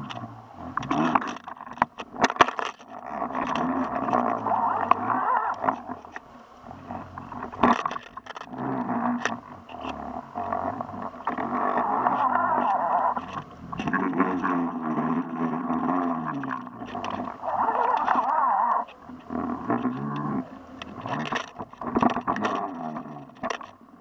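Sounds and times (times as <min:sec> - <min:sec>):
boat engine hum underwater: 0:00.0 - 0:24.0
underwater knocks and scrapes: 0:00.0 - 0:24.0.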